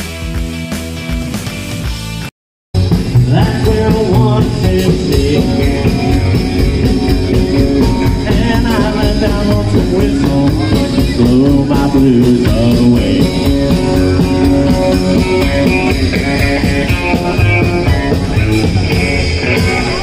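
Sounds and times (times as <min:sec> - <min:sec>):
drum kit beat: 0:00.0 - 0:20.0
electric guitar: 0:00.0 - 0:20.0
live rock band playing: 0:00.0 - 0:20.0
person singing: 0:03.2 - 0:20.0.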